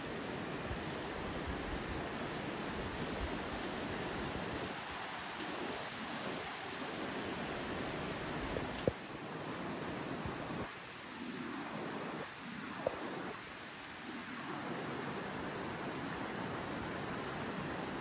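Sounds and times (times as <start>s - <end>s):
constant high hiss: 0.0s - 18.0s
wind rushing through trees: 0.0s - 18.0s.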